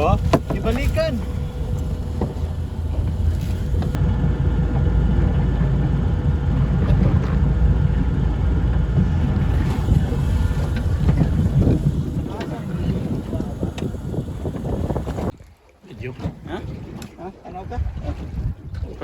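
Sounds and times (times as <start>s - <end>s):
boat motor rumbling: 0.0s - 15.3s, 15.9s - 19.0s
wind buffeting microphone: 0.0s - 15.4s, 16.0s - 19.0s.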